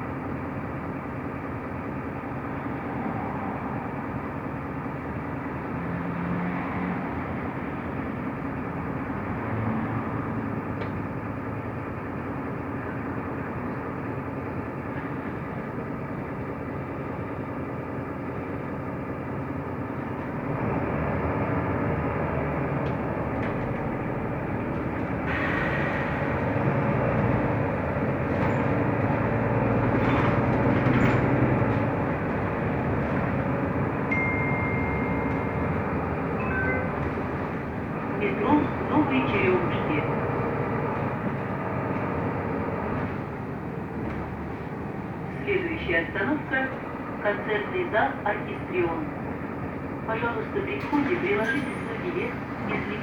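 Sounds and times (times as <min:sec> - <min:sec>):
bus engine and road noise: 0:00.0 - 0:53.0.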